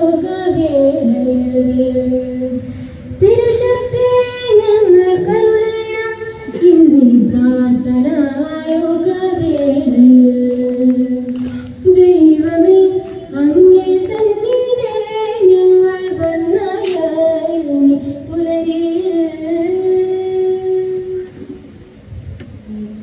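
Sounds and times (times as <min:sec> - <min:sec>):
woman singing: 0:00.0 - 0:21.3.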